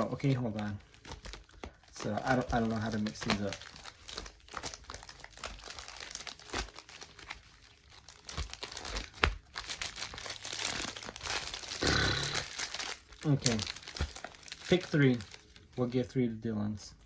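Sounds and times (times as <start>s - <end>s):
foil wrappers crinkling: 0.0s - 16.3s.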